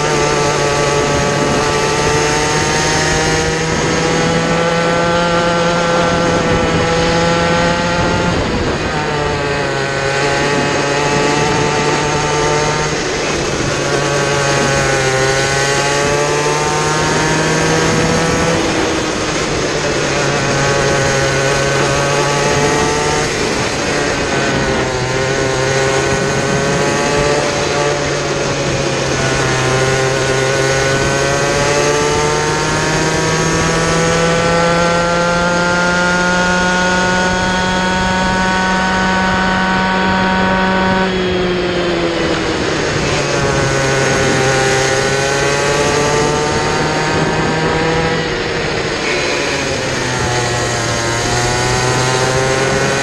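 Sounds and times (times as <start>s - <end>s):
kart engine racing: 0.0s - 53.0s
wind and tyre noise: 0.0s - 53.0s.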